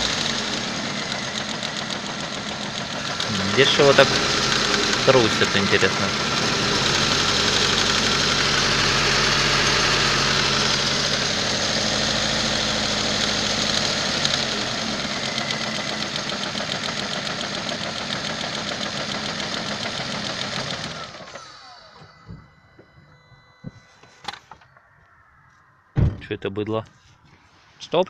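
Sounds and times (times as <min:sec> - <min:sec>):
car engine running: 0:00.0 - 0:23.6.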